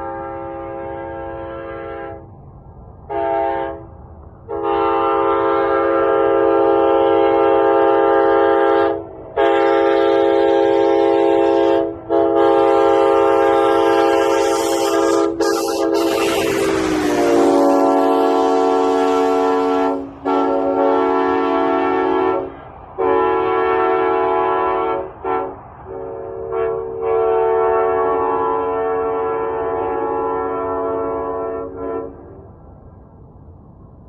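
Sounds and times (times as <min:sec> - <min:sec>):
train horn blasts: 0:00.0 - 0:02.3, 0:03.1 - 0:32.4.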